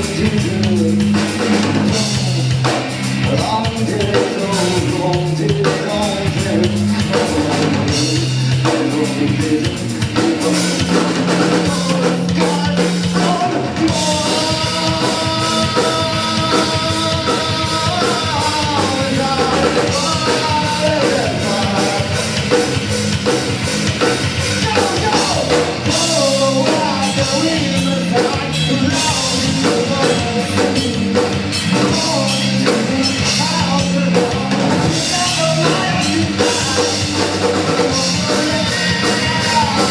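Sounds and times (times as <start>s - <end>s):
person singing: 0.0s - 22.6s, 24.5s - 39.9s
rock band playing live: 0.0s - 39.9s.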